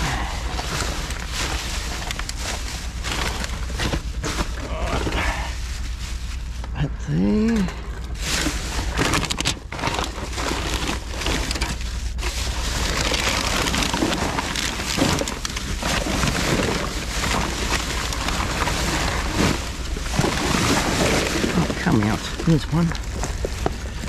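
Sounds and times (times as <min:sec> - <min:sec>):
plastic bags crinkling: 0:00.0 - 0:06.8, 0:07.4 - 0:24.0.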